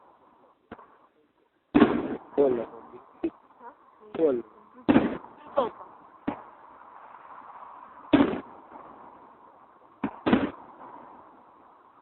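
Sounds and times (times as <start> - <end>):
fireworks bangs: 0.0 - 3.4, 4.1 - 12.0.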